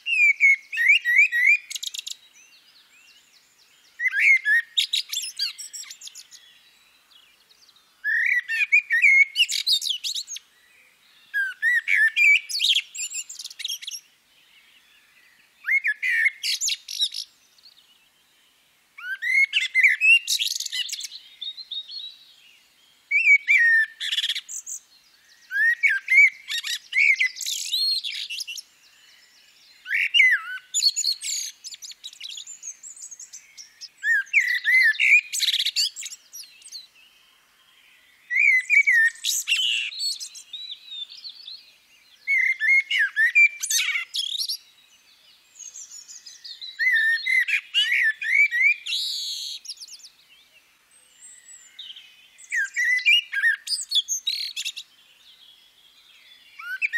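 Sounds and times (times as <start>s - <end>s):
bird singing chirps and whistles: 0.0s - 18.4s, 19.0s - 37.1s, 38.2s - 56.9s.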